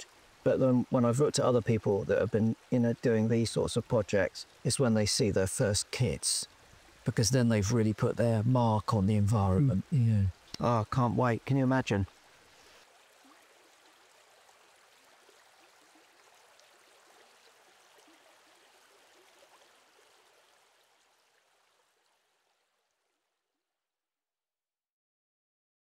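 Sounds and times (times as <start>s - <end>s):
brook babbling over stones: 0.0s - 23.4s.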